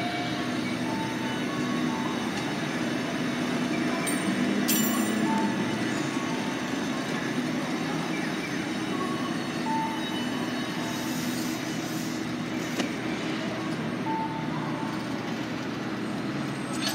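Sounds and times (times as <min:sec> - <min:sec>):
tram wheels running on rails: 0:00.0 - 0:16.9.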